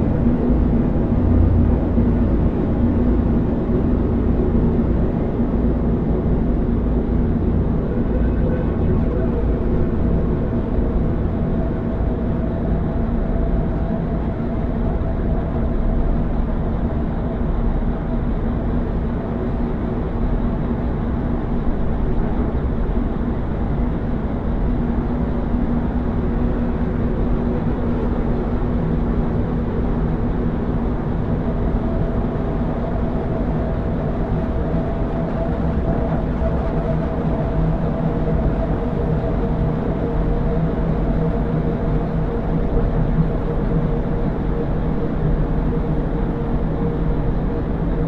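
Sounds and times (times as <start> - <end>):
dark ambient drone music: 0.0 - 48.0.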